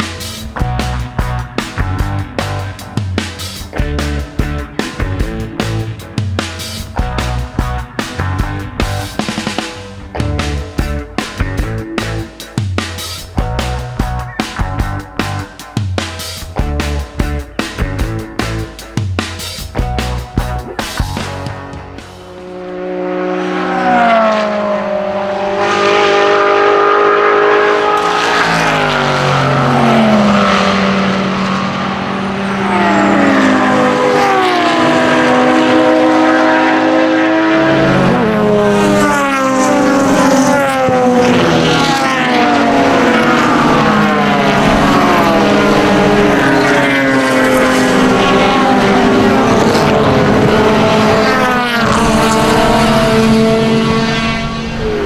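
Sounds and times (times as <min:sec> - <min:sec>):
racing car engines passing: 0:00.0 - 0:55.0.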